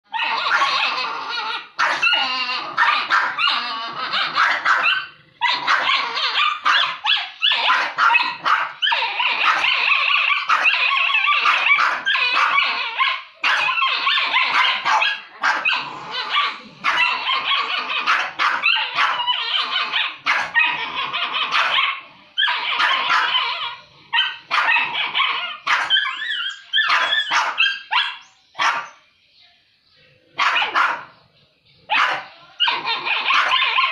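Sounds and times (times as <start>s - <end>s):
dogs barking: 0.1s - 29.0s, 30.4s - 31.2s, 31.8s - 33.9s.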